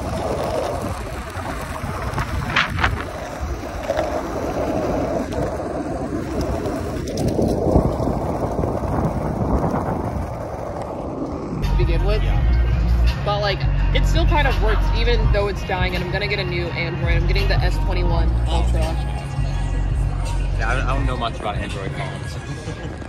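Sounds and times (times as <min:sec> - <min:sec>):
wind buffeting microphone: 0:00.0 - 0:18.9, 0:19.8 - 0:23.0
wheels rolling over rough asphalt: 0:00.0 - 0:23.0.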